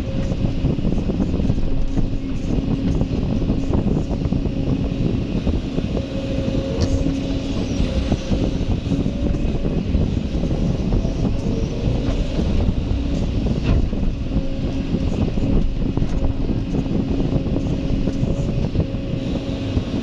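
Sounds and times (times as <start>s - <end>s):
excavator diesel engine running: 0.0s - 20.0s
steady whine: 0.0s - 20.0s.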